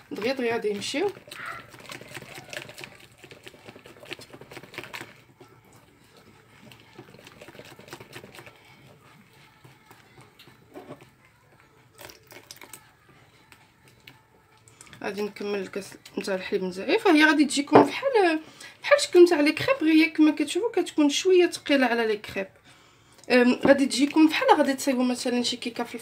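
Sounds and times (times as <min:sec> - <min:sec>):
whisk beating batter in glass bowl: 0:00.0 - 0:20.8.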